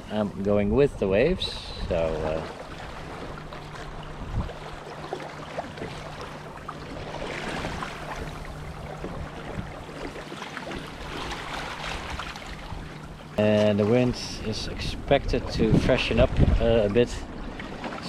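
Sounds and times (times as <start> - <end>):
water rushing along a hull: 0.0 - 18.0.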